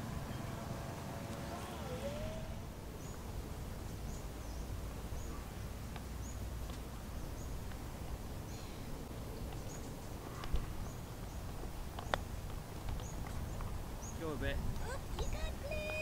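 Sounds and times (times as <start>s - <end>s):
low rumble of wind: 0.0s - 16.0s.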